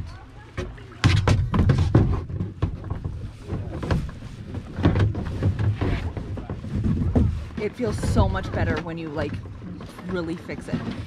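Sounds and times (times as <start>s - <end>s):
kayak seat knocking and rubbing: 0.0s - 11.0s.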